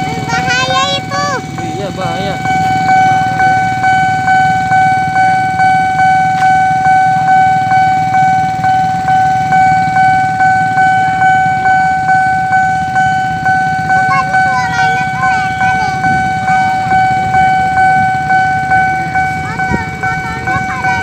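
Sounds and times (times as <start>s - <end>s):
level crossing warning bell: 0.0s - 21.0s.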